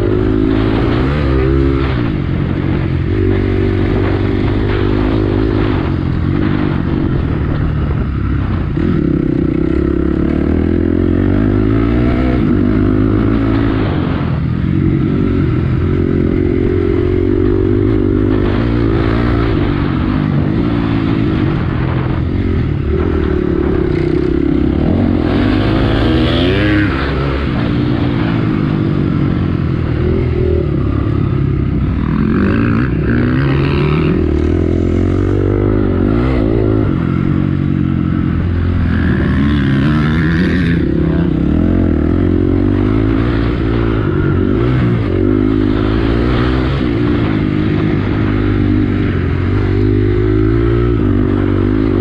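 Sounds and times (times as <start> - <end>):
motorbike engine revving: 0.0 - 52.0.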